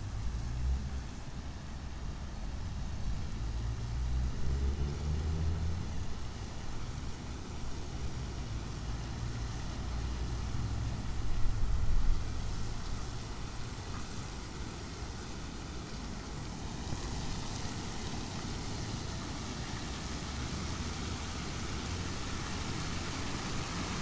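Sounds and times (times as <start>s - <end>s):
passing vehicles engine rumble: 0.0s - 24.0s.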